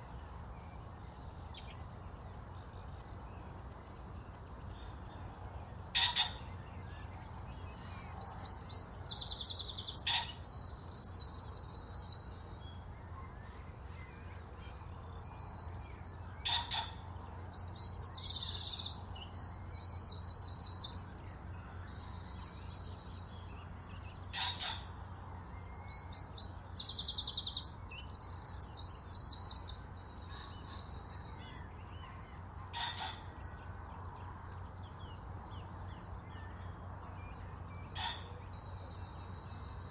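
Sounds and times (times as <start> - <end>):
songbird trilling song: 0.0 - 39.9.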